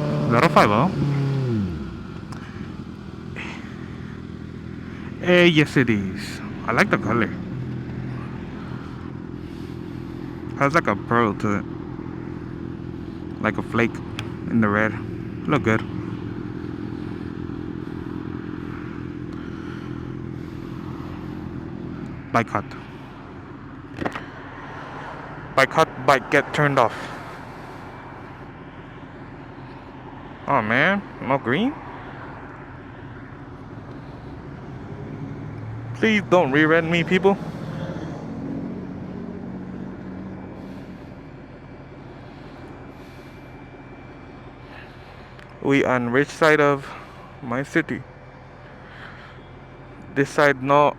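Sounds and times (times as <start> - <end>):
motorcycle engine idling: 0.0 - 50.9
pitched drone: 0.0 - 50.9.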